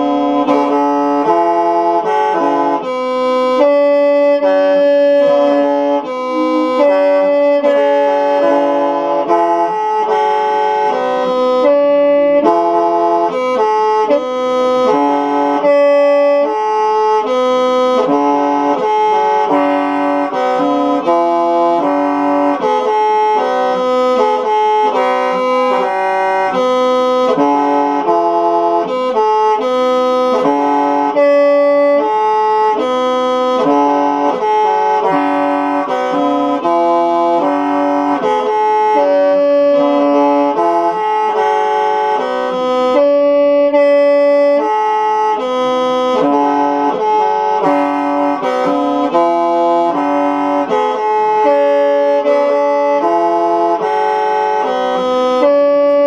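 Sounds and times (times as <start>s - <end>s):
mouth organ playing chords: 0.0s - 56.0s.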